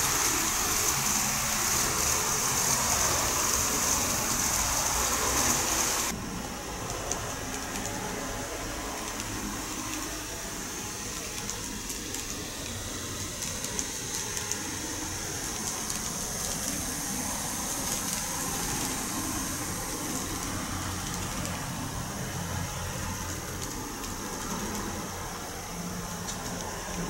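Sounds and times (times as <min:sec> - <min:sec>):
model train motor whine: 0:00.0 - 0:27.0.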